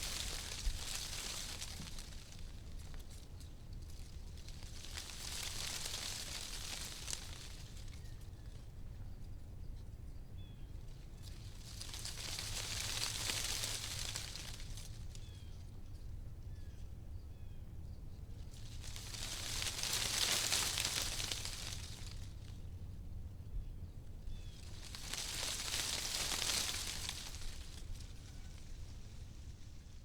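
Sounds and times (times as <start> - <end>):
leaves rustling in wind: 0.0 - 9.4, 10.4 - 16.6, 17.3 - 30.0.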